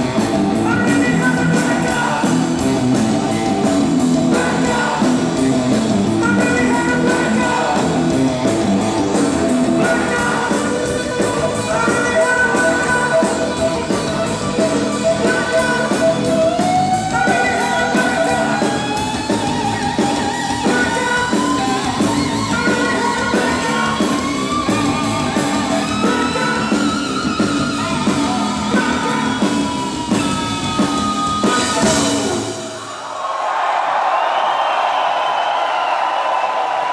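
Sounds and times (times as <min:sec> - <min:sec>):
bass guitar: 0:00.0 - 0:32.8
distorted electric guitars: 0:00.0 - 0:33.0
drum kit: 0:00.0 - 0:33.0
man singing lead vocals: 0:00.1 - 0:32.8.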